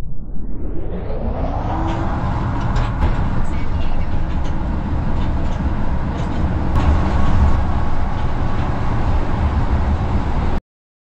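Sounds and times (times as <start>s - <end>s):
road and engine noise: 1.4s - 10.6s.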